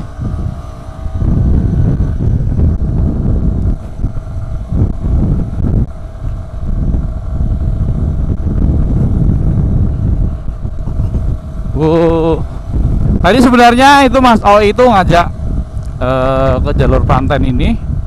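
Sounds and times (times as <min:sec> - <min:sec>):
motorcycle engine cruising: 0:00.0 - 0:18.0
wind buffeting microphone: 0:00.0 - 0:18.0.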